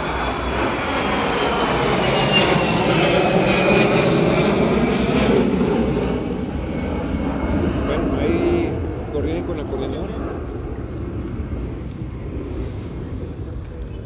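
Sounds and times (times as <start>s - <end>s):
airplane engine passing overhead: 0.0s - 14.0s.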